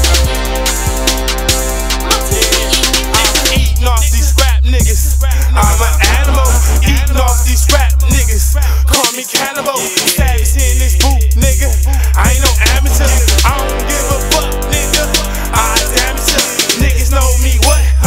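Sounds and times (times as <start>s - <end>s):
hip hop track with heavy bass: 0.0s - 18.0s.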